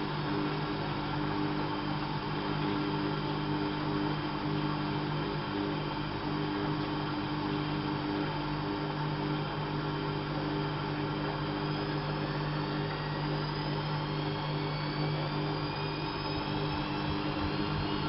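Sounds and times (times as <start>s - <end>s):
faint high whine: 0.0s - 18.0s
washing machine motor hum: 0.0s - 18.0s.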